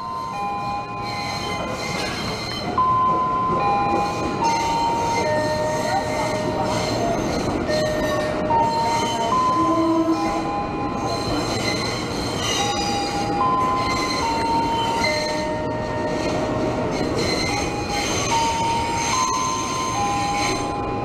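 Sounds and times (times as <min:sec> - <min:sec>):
rumble of wheels on rail: 0:00.0 - 0:21.0
train wheels squealing: 0:00.0 - 0:21.0.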